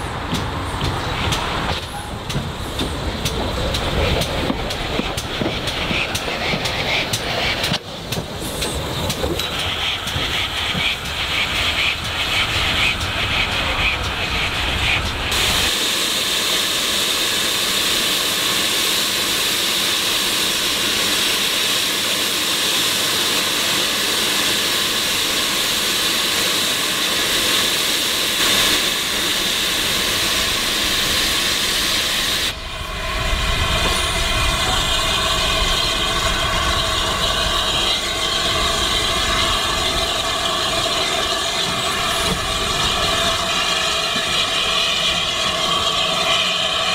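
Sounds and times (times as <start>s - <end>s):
steam hissing: 0.0s - 46.9s.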